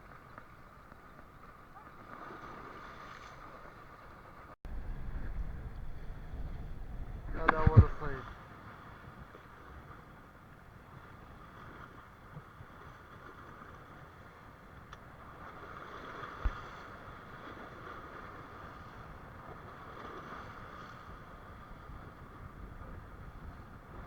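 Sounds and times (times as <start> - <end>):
water noise: 0.0 - 24.0
wind: 0.0 - 24.0.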